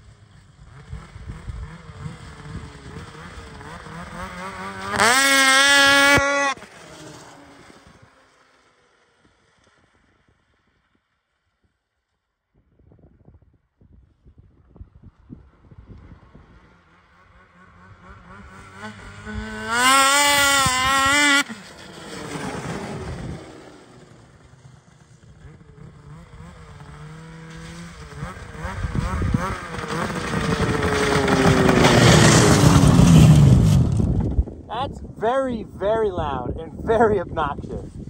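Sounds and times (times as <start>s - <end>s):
snowmobile engine at full throttle: 0.0s - 10.5s, 14.1s - 38.0s.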